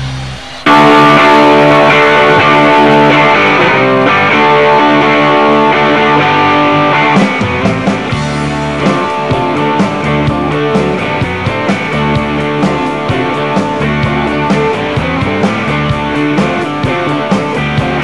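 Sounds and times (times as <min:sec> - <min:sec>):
drums playing a beat: 0:00.0 - 0:18.0
electric guitar chords: 0:00.0 - 0:18.0.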